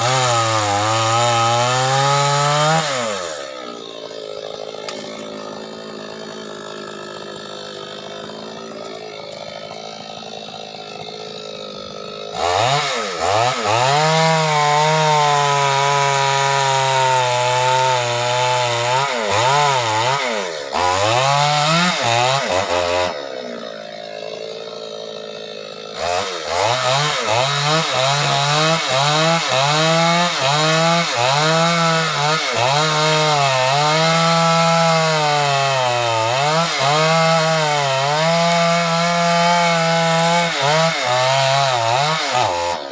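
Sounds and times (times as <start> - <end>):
chainsaw cutting wood: 0.0 - 42.9
chainsaw idling: 0.0 - 42.9.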